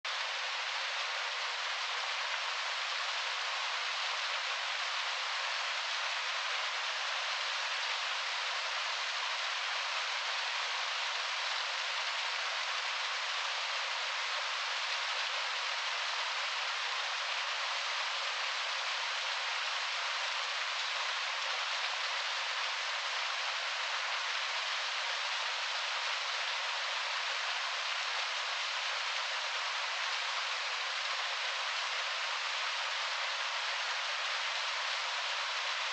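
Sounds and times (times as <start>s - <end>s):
waterfall rushing over rocks: 0.1s - 35.9s.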